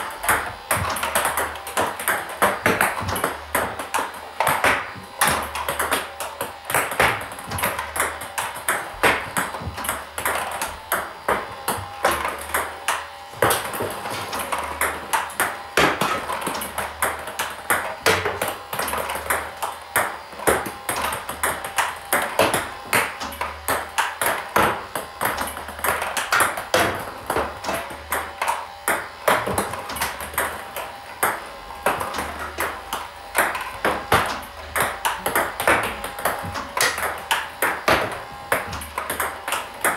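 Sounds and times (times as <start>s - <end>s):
table tennis ball clicking: 0.0s - 39.9s.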